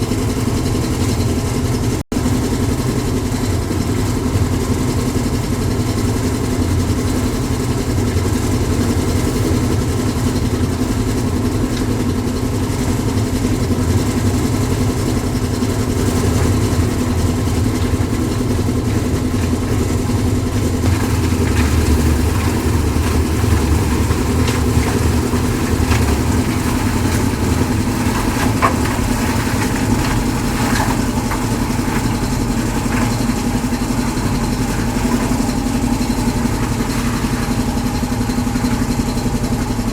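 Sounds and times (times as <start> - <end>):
concrete mixer engine running: 0.0 - 39.9
knocks and clatter: 0.0 - 39.9.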